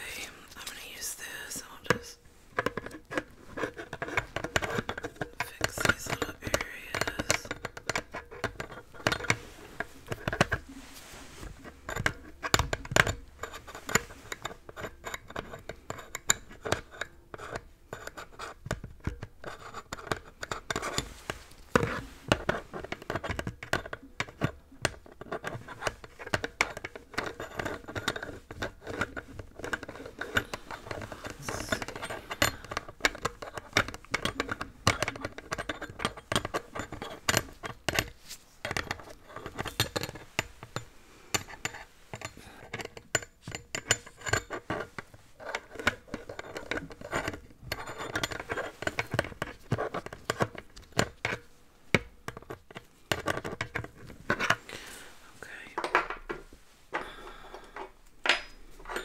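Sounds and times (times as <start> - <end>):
hands and tools scratching microphone: 1.0 - 51.5.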